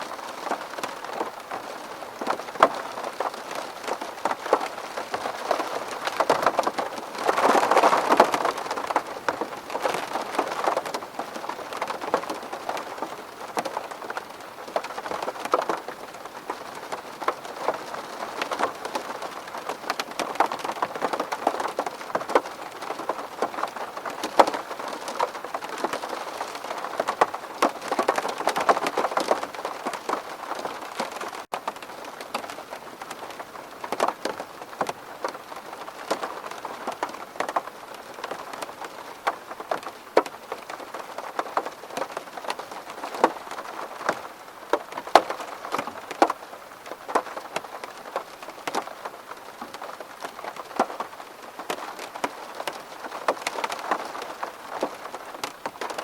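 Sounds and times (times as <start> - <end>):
raindrops ticking on glass: 0.2 - 56.0.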